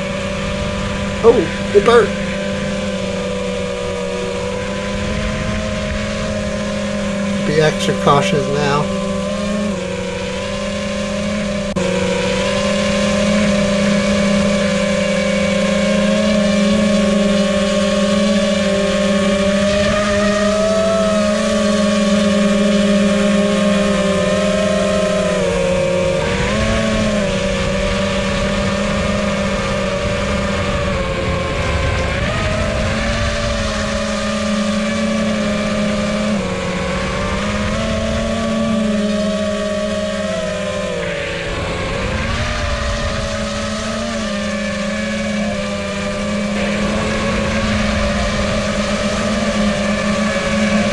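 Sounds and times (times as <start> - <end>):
quadcopter propellers whining: 0.0 - 50.9.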